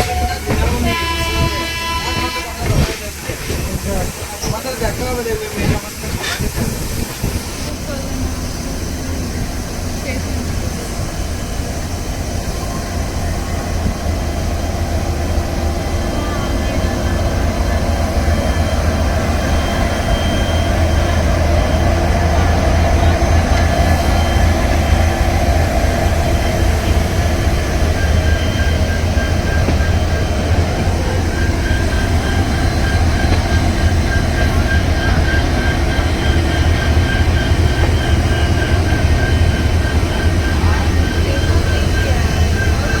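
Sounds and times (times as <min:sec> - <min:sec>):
train coaches rumbling on rails: 0:00.0 - 0:43.0.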